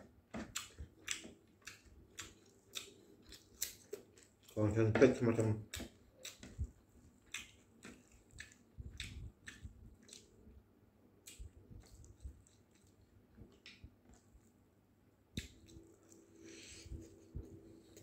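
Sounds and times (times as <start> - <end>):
small clicks and smacks: 0.0 - 10.3, 11.2 - 14.6, 15.3 - 16.2
man chewing food: 0.0 - 18.0.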